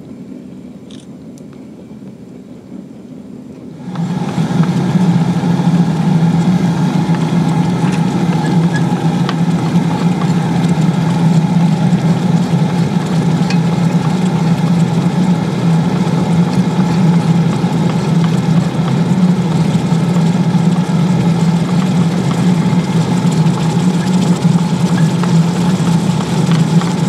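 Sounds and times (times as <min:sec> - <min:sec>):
constant low hum: 0:00.0 - 0:27.0
forge burner rushing: 0:03.7 - 0:27.0.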